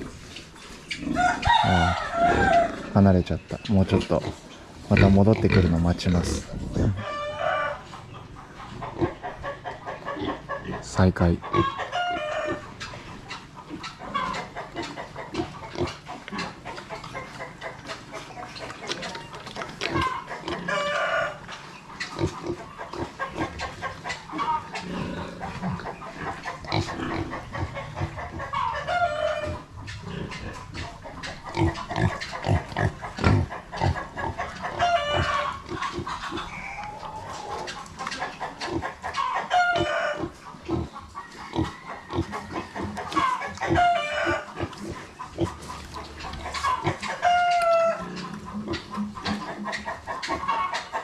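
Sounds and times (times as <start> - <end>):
pigs grunting: 0.0 - 51.0
roosters crowing: 0.9 - 3.2, 5.0 - 12.8, 19.2 - 51.0.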